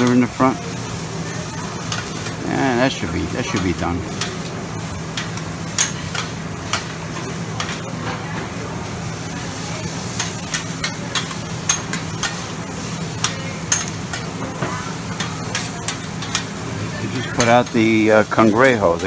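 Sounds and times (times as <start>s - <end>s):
food sizzling on a griddle: 0.0s - 19.0s.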